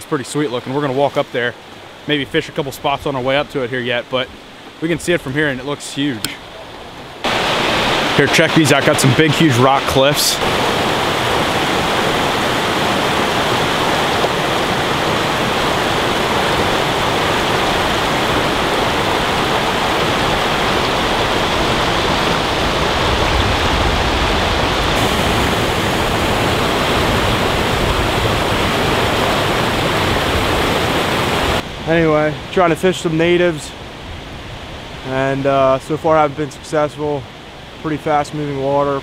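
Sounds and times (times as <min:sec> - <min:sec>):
stream rushing over rocks: 0:00.0 - 0:38.8.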